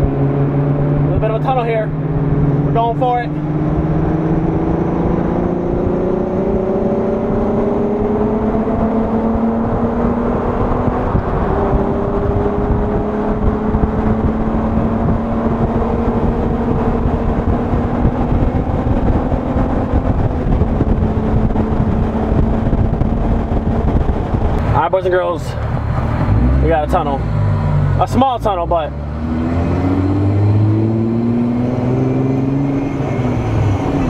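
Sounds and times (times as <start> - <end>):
car engine and exhaust: 0.0 - 34.0
road and wind rumble: 0.0 - 34.0.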